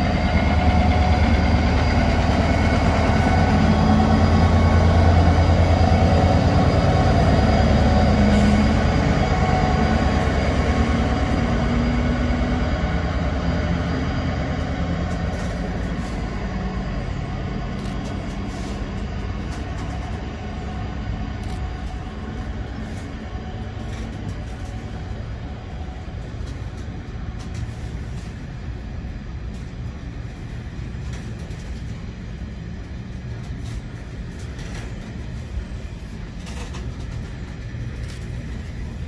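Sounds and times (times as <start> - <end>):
diesel locomotive engine drone: 0.0 - 39.0.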